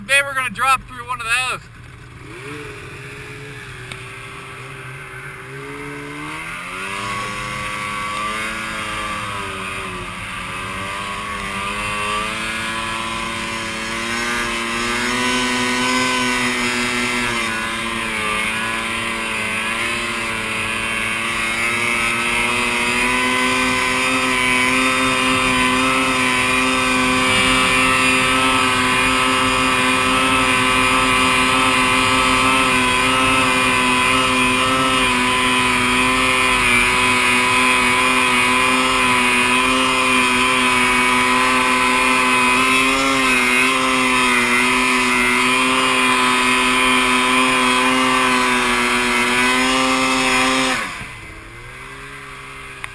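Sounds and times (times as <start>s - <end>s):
snowmobile engine high revs: 0.0s - 52.9s.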